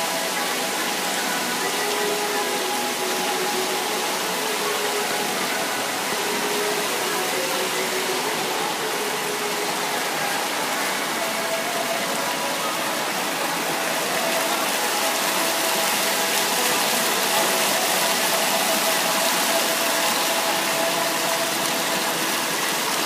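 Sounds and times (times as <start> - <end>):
water fountain splashing: 0.0 - 23.0.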